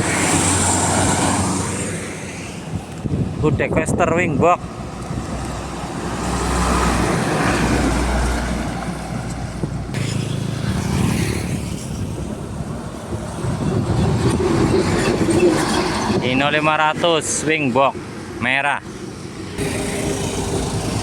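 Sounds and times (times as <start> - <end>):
trucks driving past: 0.0 - 3.4, 4.4 - 21.0
tyre and road noise: 0.0 - 21.0.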